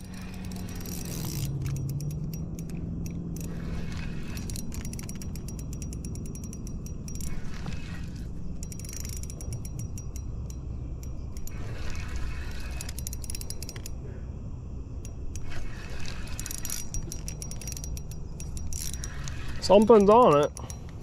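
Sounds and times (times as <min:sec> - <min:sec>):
fishing reel gears clicking: 0:00.0 - 0:14.0, 0:15.0 - 0:21.0.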